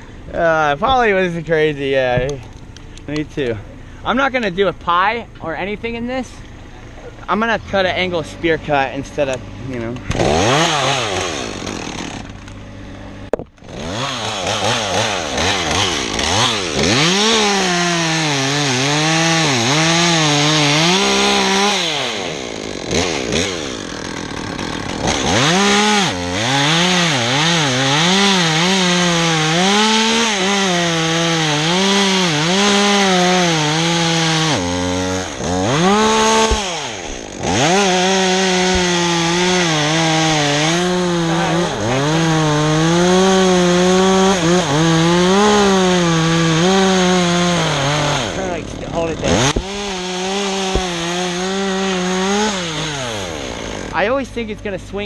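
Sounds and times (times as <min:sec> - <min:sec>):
chainsaw cutting wood: 0:06.4 - 0:54.5.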